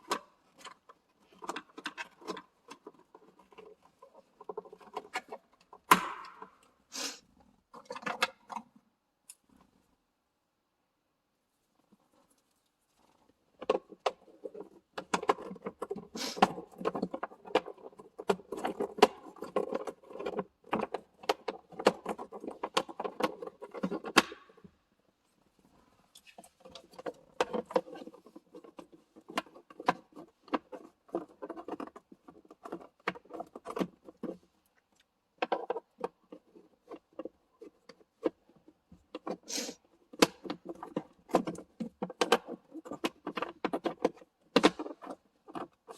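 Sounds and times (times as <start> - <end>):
plastic parts clicking and rattling: 0.0 - 6.7, 7.7 - 9.6, 13.0 - 45.9.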